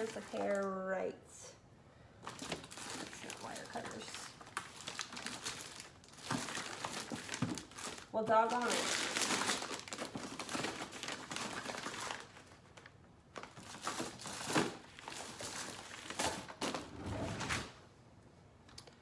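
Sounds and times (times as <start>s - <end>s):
rustling and crinkling packaging: 0.0s - 1.1s, 2.2s - 17.8s.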